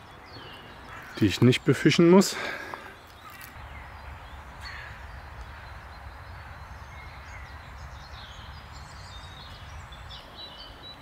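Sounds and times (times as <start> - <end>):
faint bird calls: 0.0 - 11.0
river low rumble: 0.0 - 11.0.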